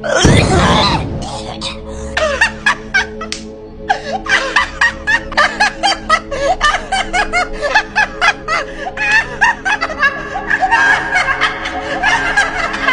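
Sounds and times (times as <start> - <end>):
background music with held tones: 0.0 - 12.9
person laughing: 0.2 - 12.9.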